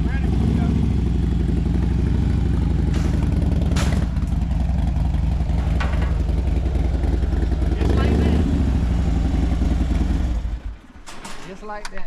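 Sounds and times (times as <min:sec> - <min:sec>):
motorcycle engine running at low revs: 0:00.0 - 0:10.7.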